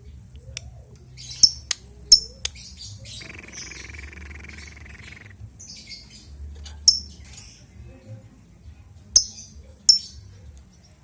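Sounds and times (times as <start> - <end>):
bird chirping and chattering: 0.0 - 7.7, 9.2 - 10.8.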